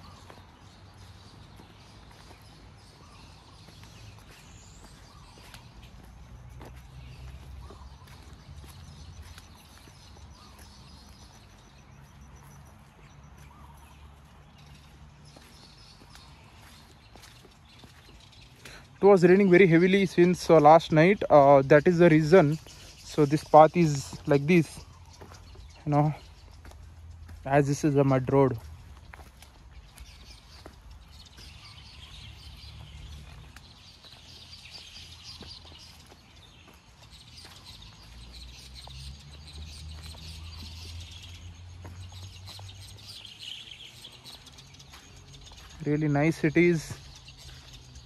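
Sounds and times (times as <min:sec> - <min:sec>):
footsteps on muddy trail: 0:00.0 - 0:48.0.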